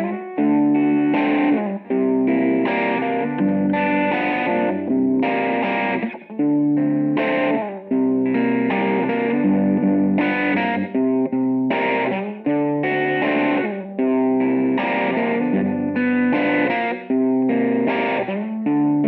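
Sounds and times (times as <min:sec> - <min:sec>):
distorted electric guitar riff: 0:00.0 - 0:19.0.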